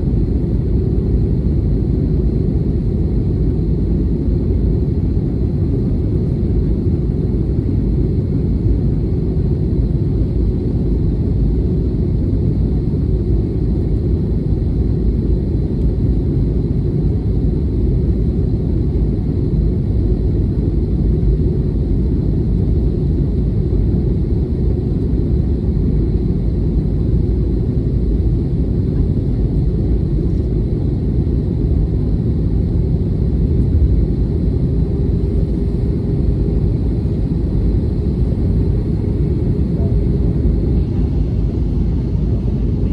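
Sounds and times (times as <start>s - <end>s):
jet airliner cabin rumble: 0.0s - 42.9s.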